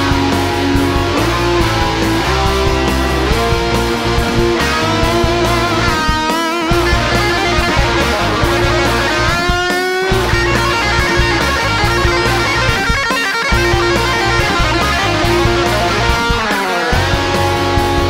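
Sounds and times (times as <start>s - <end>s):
bass and drums beat: 0.0s - 18.0s
guitar instrumental: 0.0s - 18.0s.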